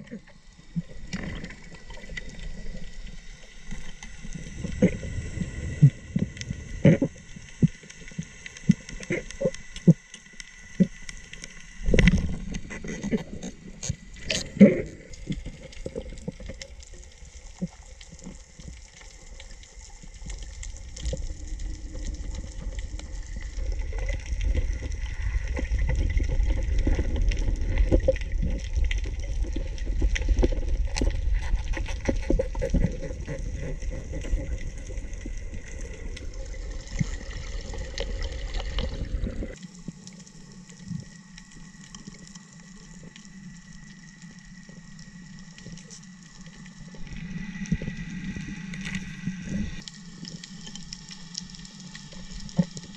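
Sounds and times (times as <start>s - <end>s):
muffled underwater rumble: 0.0s - 52.9s
underwater clicks and crackles: 0.0s - 52.9s.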